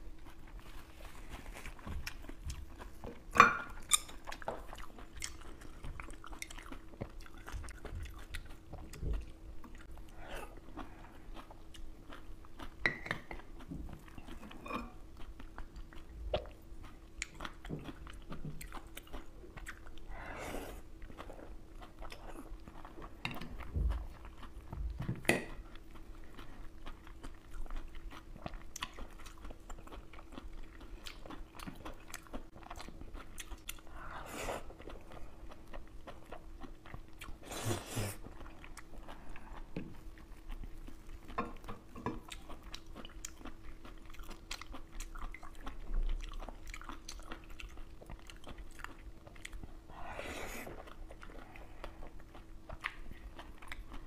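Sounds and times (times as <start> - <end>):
chewing and biting oysters: 0.0 - 20.1, 20.8 - 49.9, 50.6 - 54.0.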